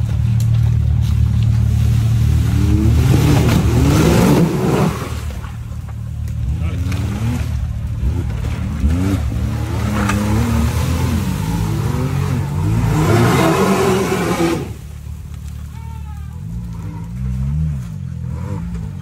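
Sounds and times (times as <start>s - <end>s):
engine revving up and down: 0.0s - 5.6s, 6.3s - 15.0s, 16.4s - 19.0s.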